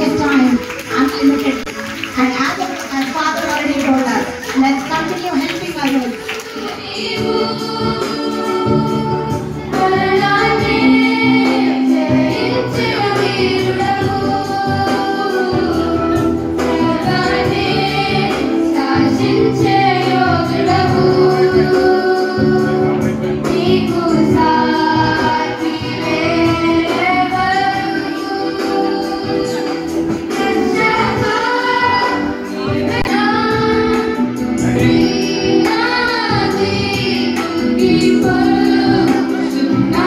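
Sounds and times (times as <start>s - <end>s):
song with singing voice: 0.0s - 40.0s.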